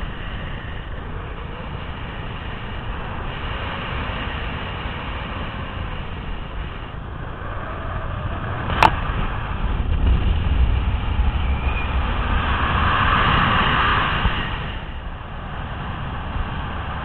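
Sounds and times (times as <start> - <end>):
wind roaring over microphone: 0.0 - 17.0.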